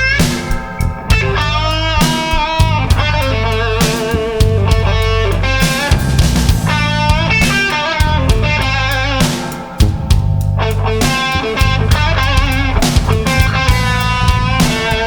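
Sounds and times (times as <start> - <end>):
bass guitar: 0.0 - 15.0
drum kit: 0.0 - 15.0
electric guitar: 0.0 - 15.0.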